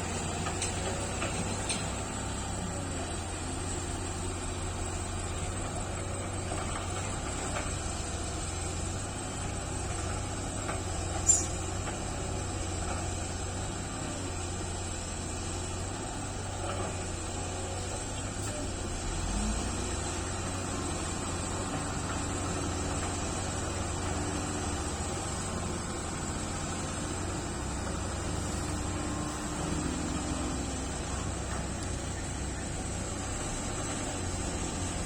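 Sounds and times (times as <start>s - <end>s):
excavator diesel engine humming: 0.0s - 35.0s.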